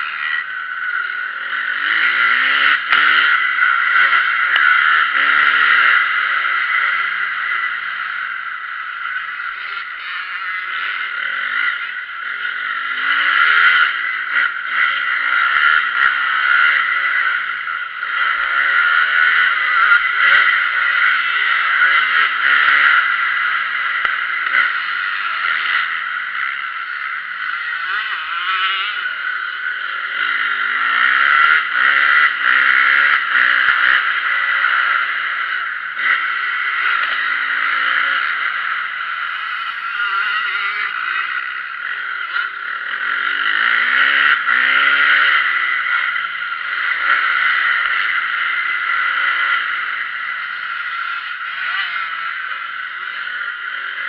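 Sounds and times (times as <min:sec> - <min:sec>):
high engine drone: 0:00.0 - 0:54.0
motocross engines revving: 0:00.0 - 0:54.0.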